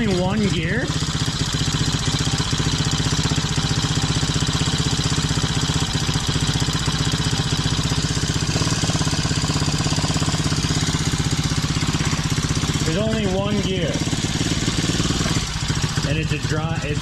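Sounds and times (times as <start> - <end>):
mini quad engine running: 0.0 - 17.0.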